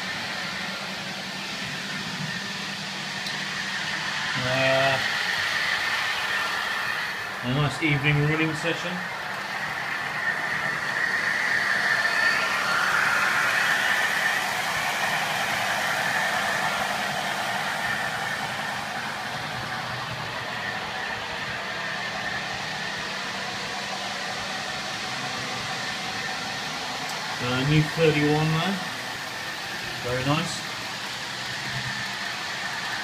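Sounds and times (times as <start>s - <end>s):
model trains whirring on rails: 0.0s - 33.0s.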